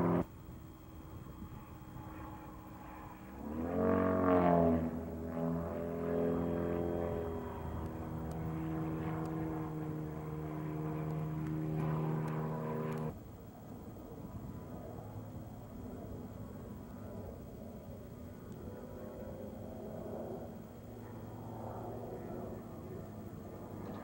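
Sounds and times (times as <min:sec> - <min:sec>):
propeller airplane engine droning: 0:00.0 - 0:24.0.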